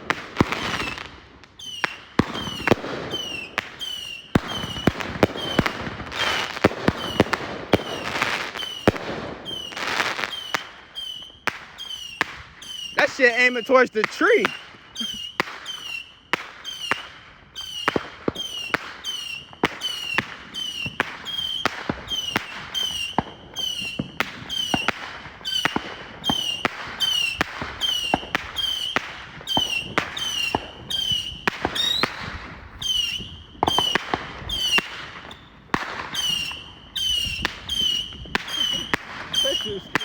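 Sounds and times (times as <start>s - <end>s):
firework bangs: 0.0s - 40.0s
firework whistle: 0.4s - 40.0s.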